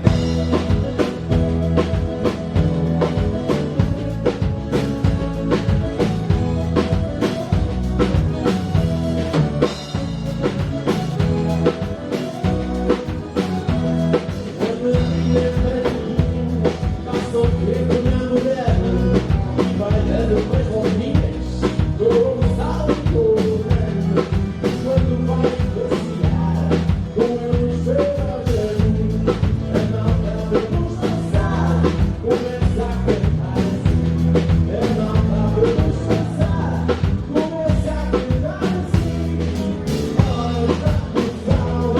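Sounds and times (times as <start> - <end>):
drum kit beat: 0.0 - 41.9
live band playing: 0.0 - 41.9.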